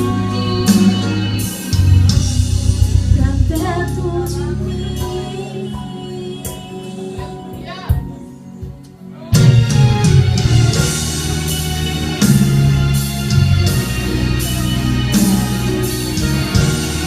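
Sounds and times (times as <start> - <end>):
band with guitar and drums: 0.0 - 17.0.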